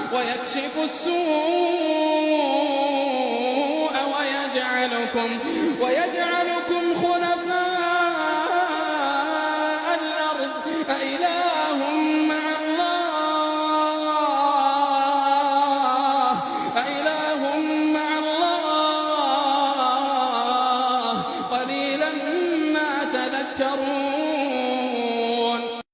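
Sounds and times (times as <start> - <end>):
man chanting melodically: 0.0 - 25.9.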